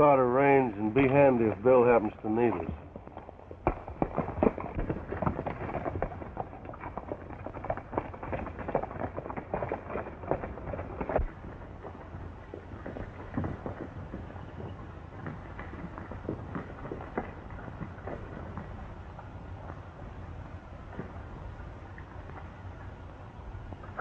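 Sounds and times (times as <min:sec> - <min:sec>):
horse hoofbeats clattering: 0:00.0 - 0:24.0.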